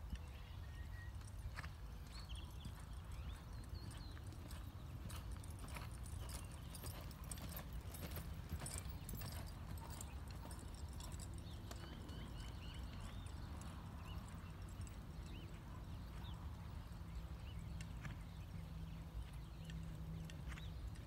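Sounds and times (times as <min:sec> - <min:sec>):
horse hoofbeats on dirt: 0:00.1 - 0:21.0.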